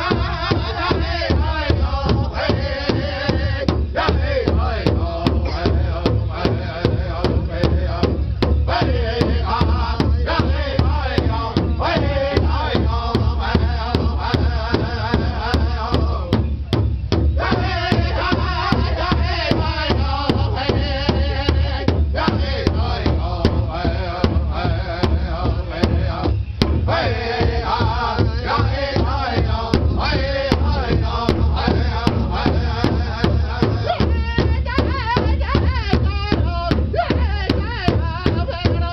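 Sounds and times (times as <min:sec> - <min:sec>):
men singing in unison: 0:00.0 - 0:38.9.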